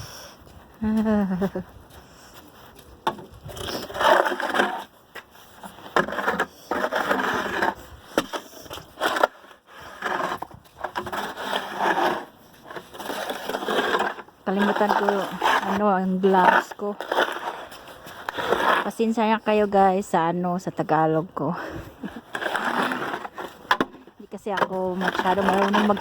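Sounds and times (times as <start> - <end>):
snow shovel scraping snow: 3.4 - 20.0, 21.4 - 26.0.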